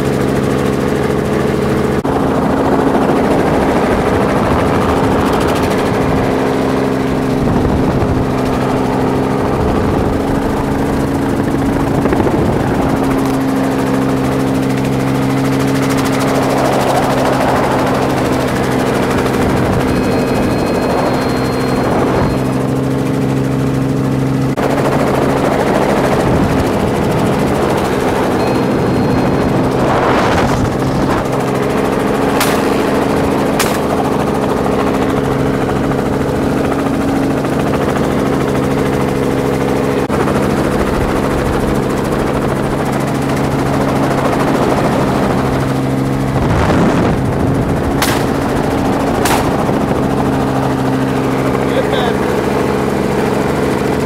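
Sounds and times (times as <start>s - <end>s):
helicopter engine and rotor hum: 0.0s - 54.0s.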